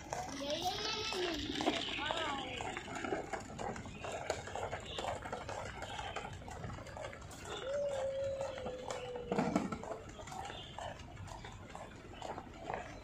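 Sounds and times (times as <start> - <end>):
scooter wheels rattling over paving: 0.0 - 13.0.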